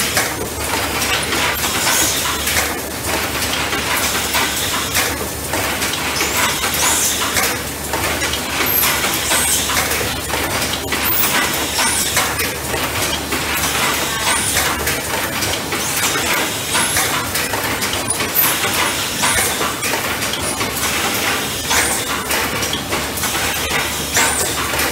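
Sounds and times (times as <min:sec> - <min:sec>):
machine clattering clicks and clinks: 0:00.0 - 0:24.9.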